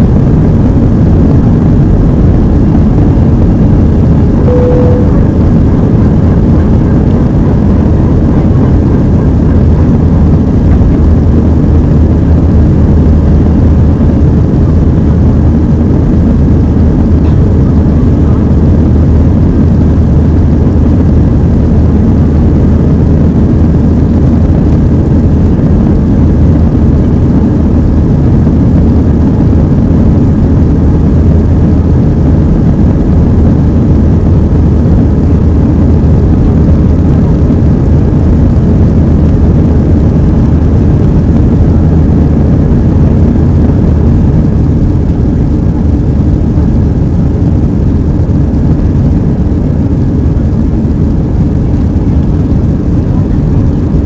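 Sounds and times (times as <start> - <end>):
jet engines droning in cabin: 0.0 - 54.0.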